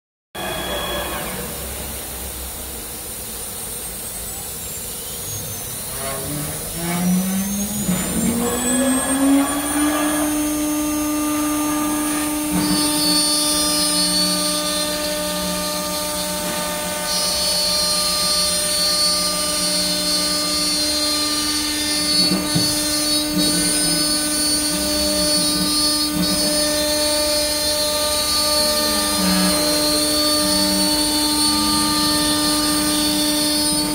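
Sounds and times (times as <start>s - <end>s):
router spindle whine: 0.3s - 33.9s
bit routing into board: 5.7s - 33.9s.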